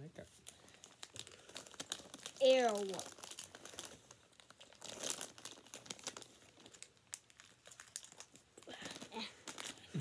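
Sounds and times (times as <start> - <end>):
plastic wrappers crinkling: 0.2 - 10.0.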